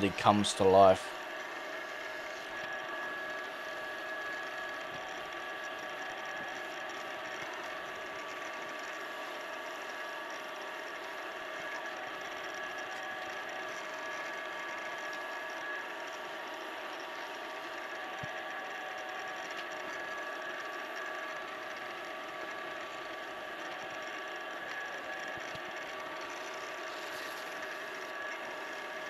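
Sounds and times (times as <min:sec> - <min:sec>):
wood lathe humming: 0:00.0 - 0:29.0.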